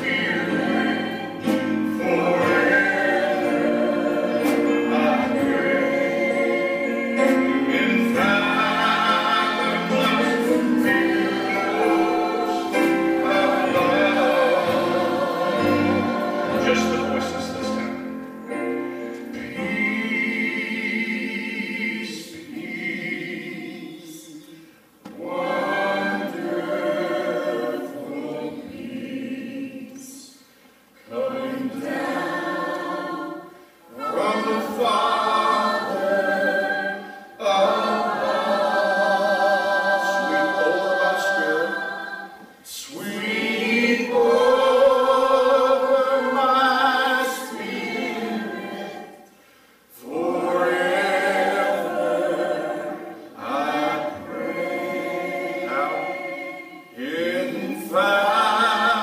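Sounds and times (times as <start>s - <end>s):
women singing in harmony: 0.0s - 30.4s, 31.0s - 49.4s, 50.0s - 59.0s.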